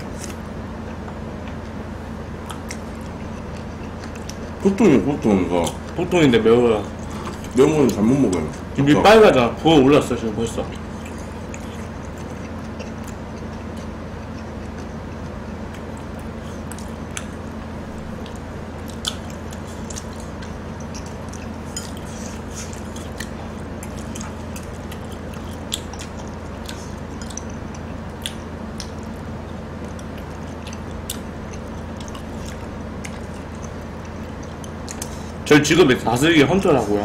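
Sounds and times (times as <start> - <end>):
chewing and biting: 0.0 - 6.2, 10.6 - 35.4
low hum: 0.0 - 37.0.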